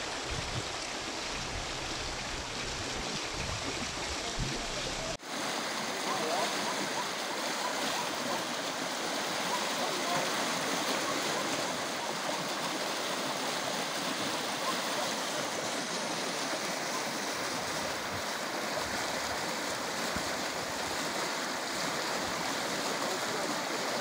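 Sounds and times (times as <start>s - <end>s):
floodwater rushing down a ditch: 0.0s - 24.0s.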